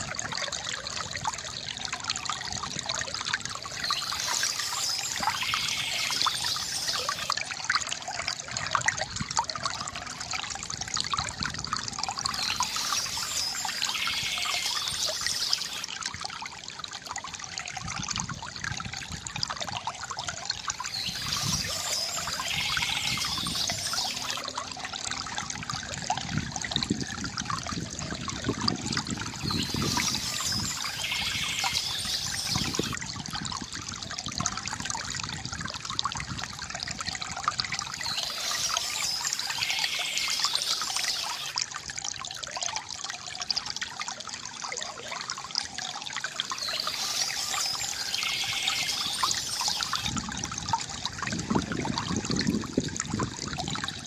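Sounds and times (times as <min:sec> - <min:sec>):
water trickling from bamboo fountain: 0:00.0 - 0:54.0.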